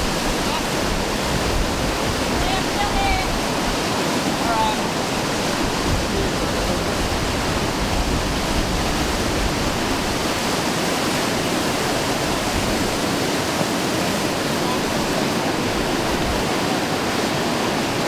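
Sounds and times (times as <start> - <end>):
whitewater rushing: 0.0 - 18.0.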